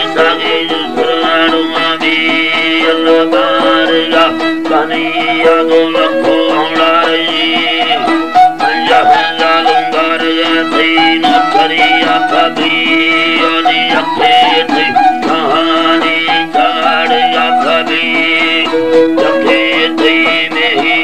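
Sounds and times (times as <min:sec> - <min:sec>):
plucked-string melody: 0:00.0 - 0:21.0.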